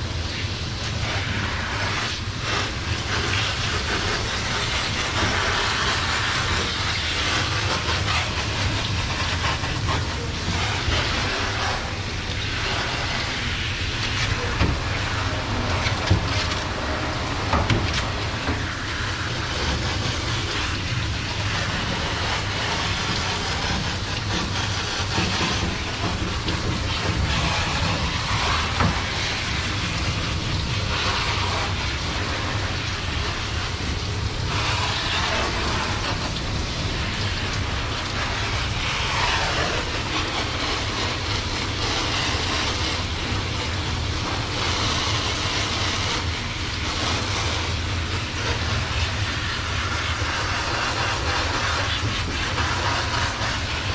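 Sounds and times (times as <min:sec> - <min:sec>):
hand sprayer running water: 0:00.0 - 0:53.9.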